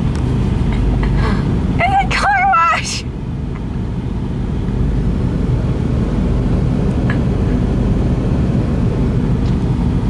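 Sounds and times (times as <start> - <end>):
low rumble inside car wash: 0.0 - 10.0.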